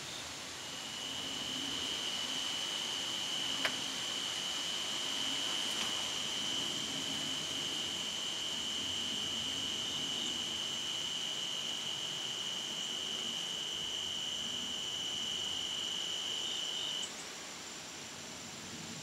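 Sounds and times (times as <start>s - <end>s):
insect high-pitched trill: 0.0s - 17.3s.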